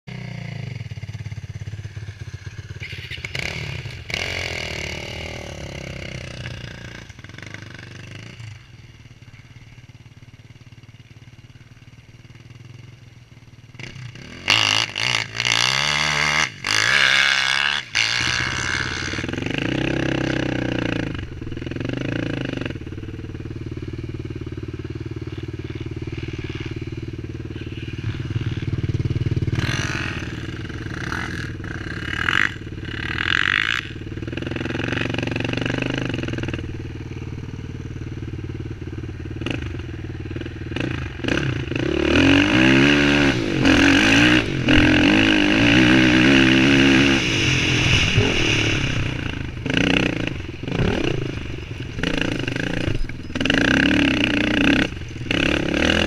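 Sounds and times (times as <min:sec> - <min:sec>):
quad bike engine idling and revving: 0:00.0 - 0:56.0.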